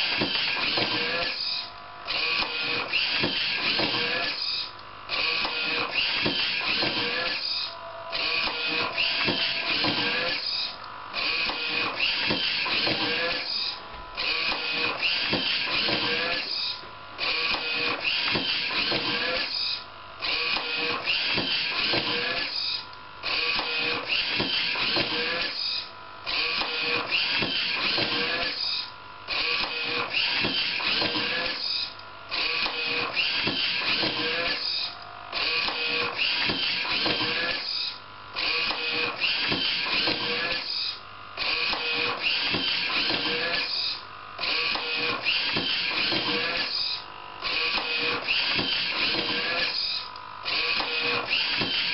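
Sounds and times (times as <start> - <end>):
book scanner whirring and clattering: 0.0 - 51.9.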